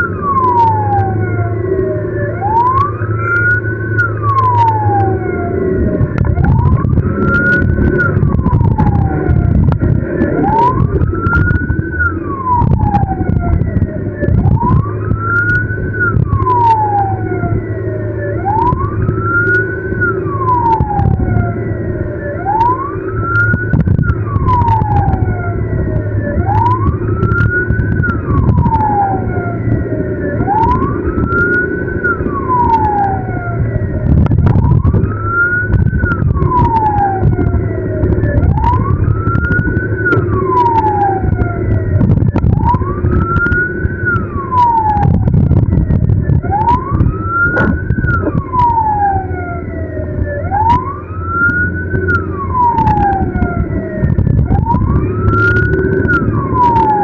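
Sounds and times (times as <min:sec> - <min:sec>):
ambulance siren wailing: 0:00.0 - 0:57.0
engine and road rumble: 0:00.0 - 0:57.0.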